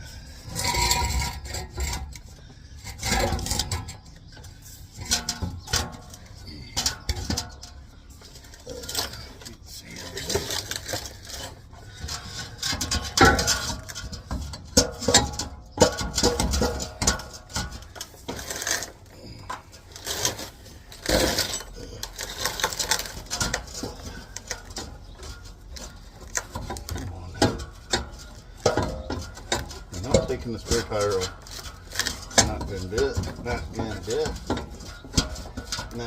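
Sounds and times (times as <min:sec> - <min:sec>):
metal pipe clanking and knocking: 0:00.0 - 0:36.0.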